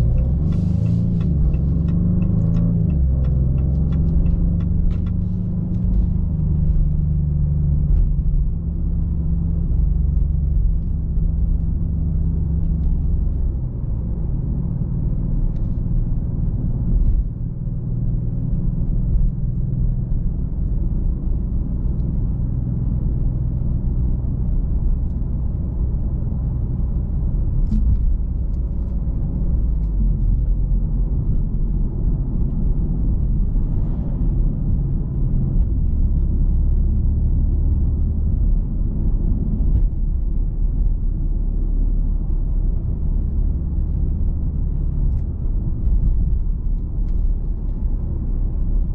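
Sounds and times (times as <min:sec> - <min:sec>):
car engine cruising: 0:00.0 - 0:48.9
low road rumble: 0:00.0 - 0:48.9.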